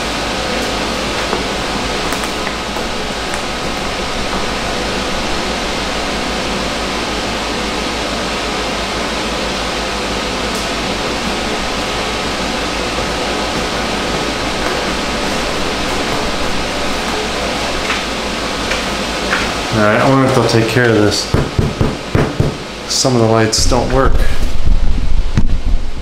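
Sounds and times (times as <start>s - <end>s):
fan blowing air hiss: 0.0s - 26.0s.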